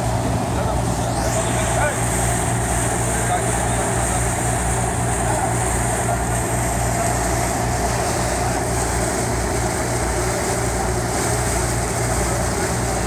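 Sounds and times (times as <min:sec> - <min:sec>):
ferry engine droning: 0:00.0 - 0:13.0
water churning along hull: 0:00.0 - 0:13.0.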